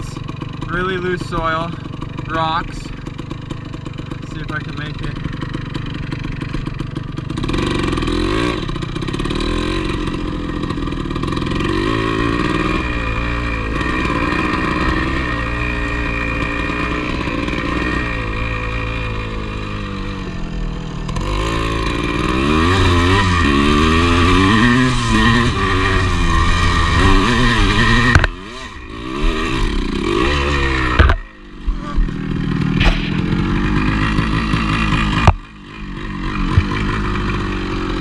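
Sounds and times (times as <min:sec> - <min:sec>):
two-stroke motorcycle engine revving: 0:00.0 - 0:38.0.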